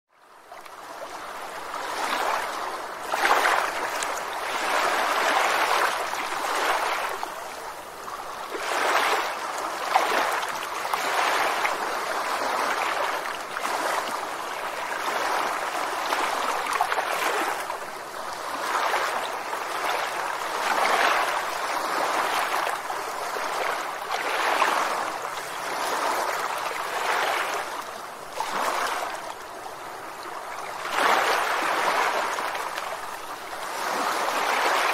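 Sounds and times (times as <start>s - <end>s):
river water flowing over rocks: 0.1s - 34.9s.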